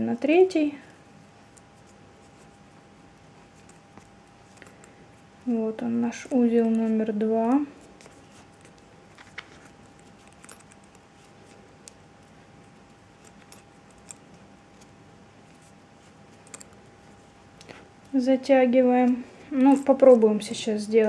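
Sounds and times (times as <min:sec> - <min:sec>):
faint steady hum: 0:00.0 - 0:21.0
cord rustling: 0:00.8 - 0:18.2, 0:19.0 - 0:21.0.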